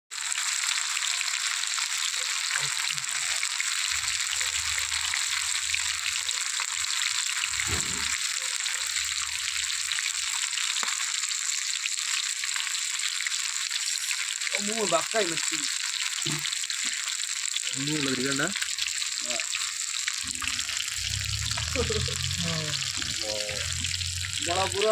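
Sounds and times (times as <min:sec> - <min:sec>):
fish sizzling in oil: 0:00.1 - 0:24.9.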